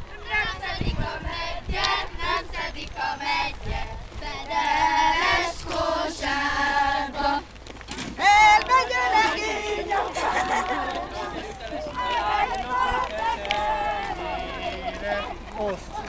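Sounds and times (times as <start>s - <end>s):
women and girls singing: 0.1s - 7.5s, 8.2s - 15.0s.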